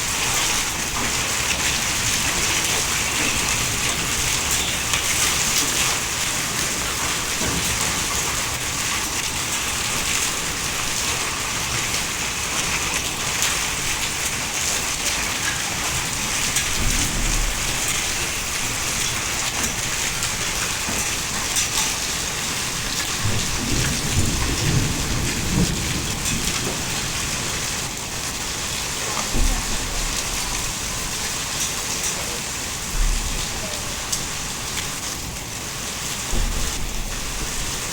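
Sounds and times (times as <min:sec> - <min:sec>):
hail pattering on hard surfaces: 0:00.0 - 0:37.9.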